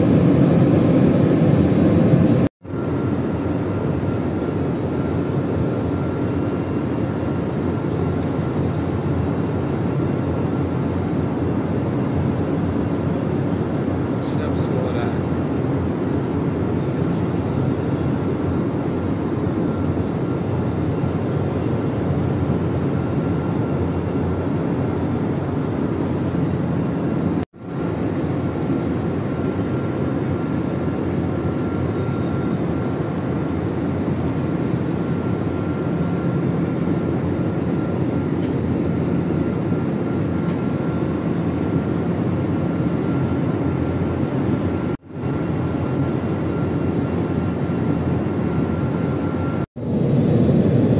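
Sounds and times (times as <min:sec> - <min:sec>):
jet airliner cabin roar: 0:00.0 - 0:50.9.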